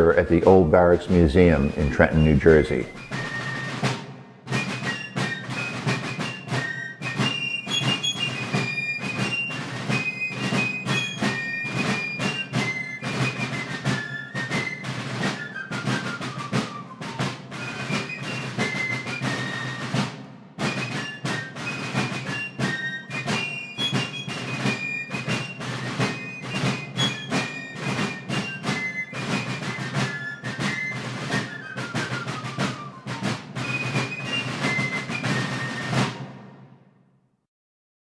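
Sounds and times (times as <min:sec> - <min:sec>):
fifes playing marching tune: 0:00.0 - 0:36.6
snare drum strokes: 0:00.0 - 0:36.9.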